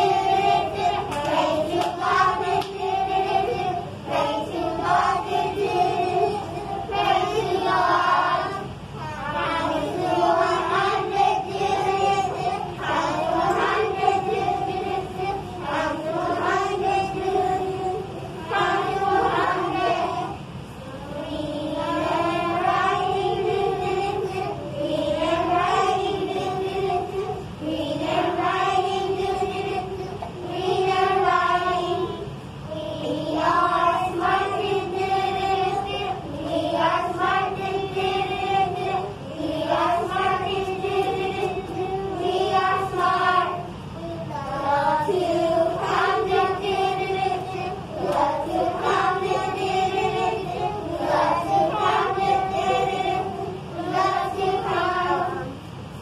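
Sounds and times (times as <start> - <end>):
children singing in unison: 0.0 - 55.6.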